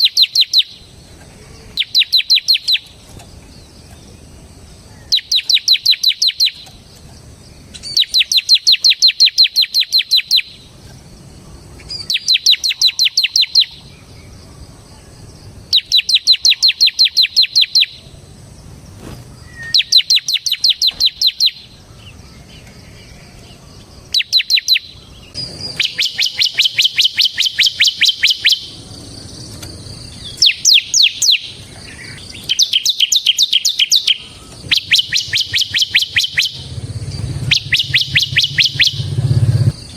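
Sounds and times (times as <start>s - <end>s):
bird high trill: 0.0s - 3.0s, 4.9s - 6.8s, 7.7s - 10.7s, 11.8s - 14.4s, 15.0s - 18.2s, 19.4s - 39.9s.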